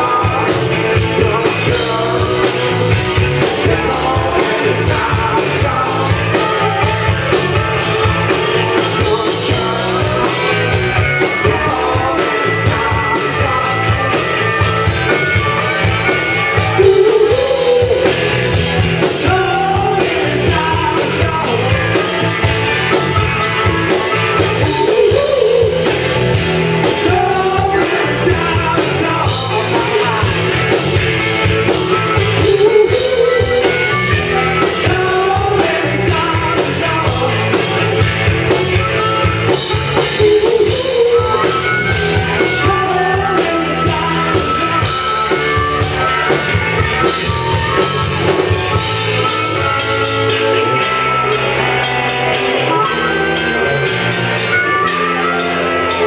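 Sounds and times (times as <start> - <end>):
bass guitar: 0.0 - 56.0
drums: 0.0 - 56.0
electric guitars: 0.0 - 56.0
man singing: 0.0 - 56.0.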